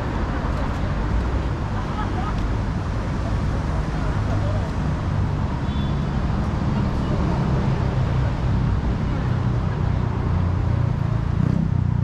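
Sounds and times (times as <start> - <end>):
passers-by talking: 0.0 - 10.9
road traffic rumble: 0.0 - 12.0.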